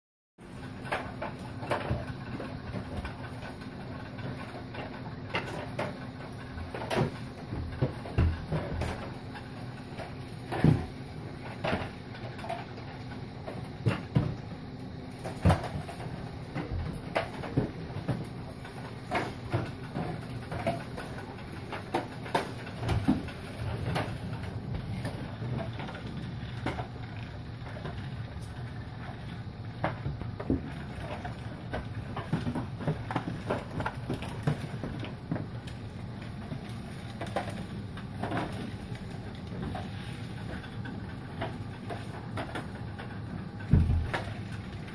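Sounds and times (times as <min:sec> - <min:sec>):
steady low hum: 0:00.4 - 0:44.9.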